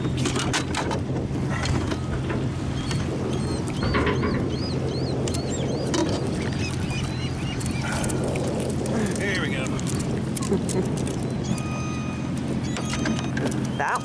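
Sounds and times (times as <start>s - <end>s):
boat motor idling: 0.0s - 14.0s
water splashes: 1.4s - 14.0s.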